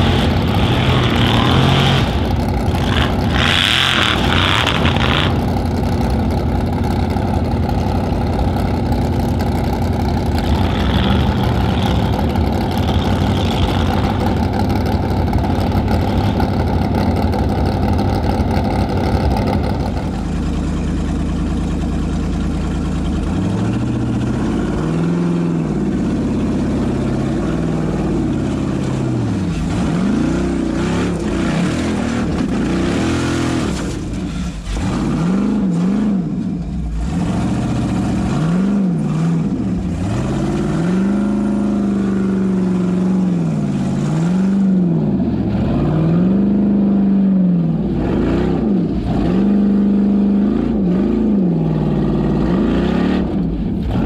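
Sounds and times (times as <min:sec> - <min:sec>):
racing car engine revving: 0:00.0 - 0:20.3, 0:23.1 - 0:54.0.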